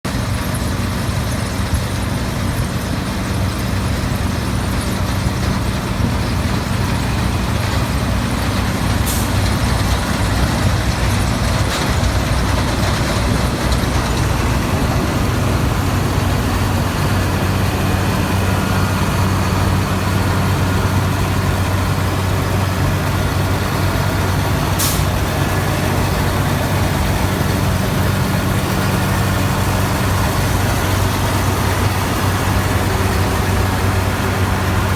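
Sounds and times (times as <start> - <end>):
combine harvester working: 0.0 - 34.9
diesel engine running: 0.0 - 34.9.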